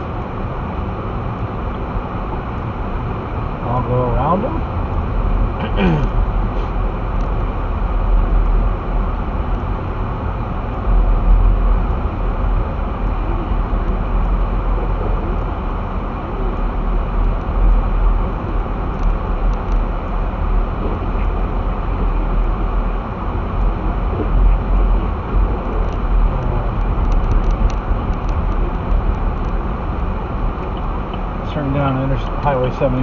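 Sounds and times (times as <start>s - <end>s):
vehicle road and engine rumble: 0.0s - 33.0s.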